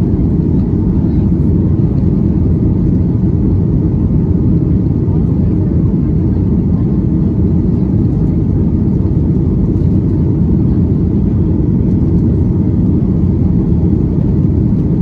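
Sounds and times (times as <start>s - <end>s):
aircraft cabin rumble: 0.0s - 15.0s.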